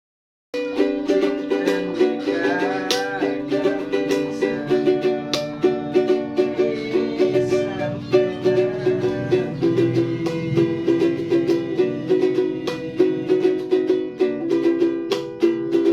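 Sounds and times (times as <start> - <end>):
plucked-string melody over beat: 0.6 - 15.9.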